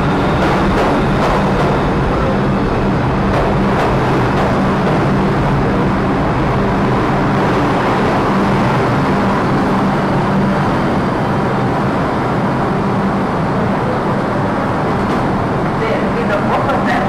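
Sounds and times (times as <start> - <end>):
low humming tones: 0.0 - 17.0
subway train rumble: 0.0 - 17.0.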